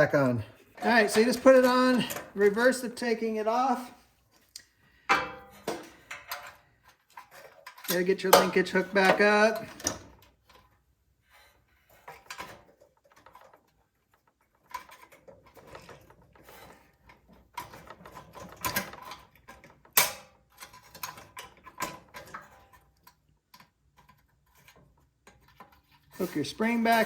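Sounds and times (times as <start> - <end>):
small metal parts clicking and rattling: 0.7 - 2.8, 5.2 - 27.0.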